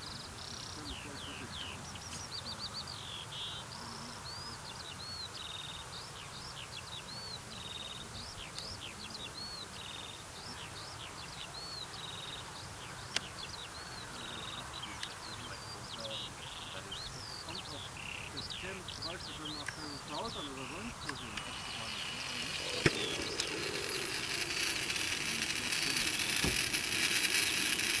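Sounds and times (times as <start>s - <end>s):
birds singing: 0.0s - 28.0s.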